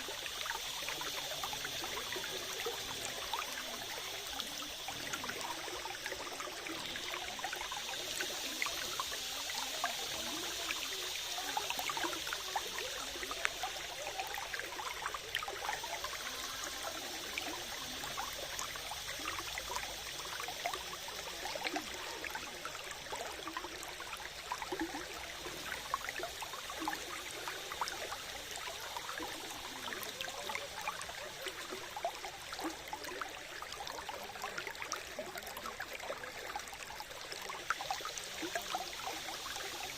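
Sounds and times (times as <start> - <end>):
water trickling in stream: 0.0 - 39.9.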